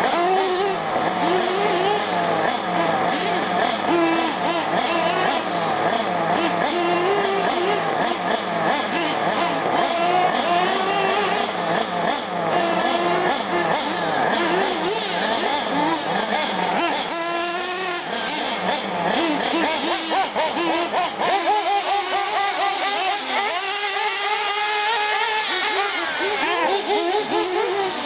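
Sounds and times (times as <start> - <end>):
small nitro engines revving: 0.0 - 28.0.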